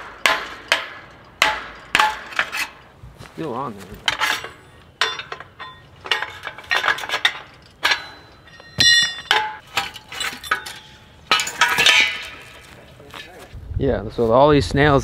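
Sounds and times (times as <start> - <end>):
metallic clinks and clanks: 0.0 - 3.0, 4.0 - 13.4.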